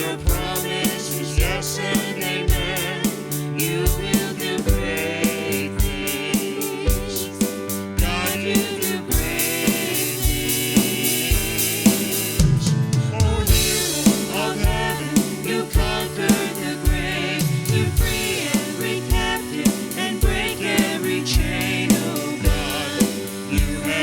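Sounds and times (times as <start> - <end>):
drum kit beat: 0.0 - 24.0
person singing: 0.0 - 24.0
worship band playing: 0.0 - 24.0.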